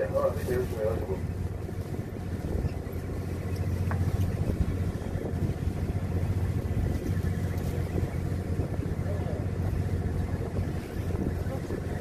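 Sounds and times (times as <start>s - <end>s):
boat machinery humming: 0.0s - 12.0s.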